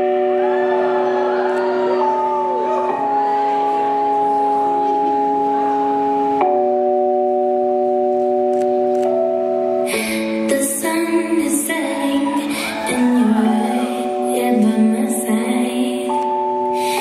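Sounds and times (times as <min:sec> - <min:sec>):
music of long held chords: 0:00.0 - 0:17.0.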